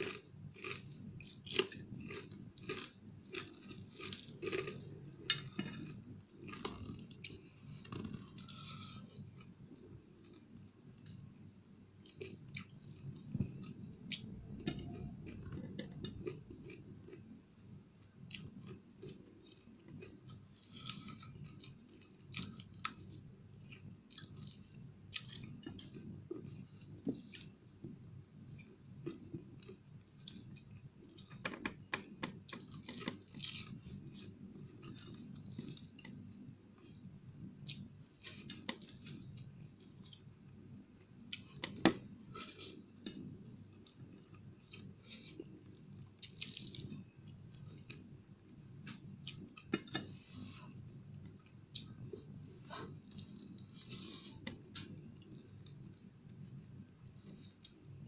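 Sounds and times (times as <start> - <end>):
person chewing fried fish: 0.0 - 17.4, 18.2 - 58.0.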